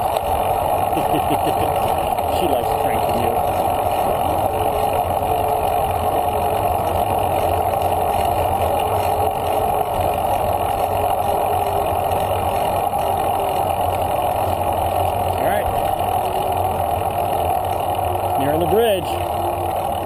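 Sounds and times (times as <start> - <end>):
bicycle tyres rolling on asphalt: 0.0 - 20.0.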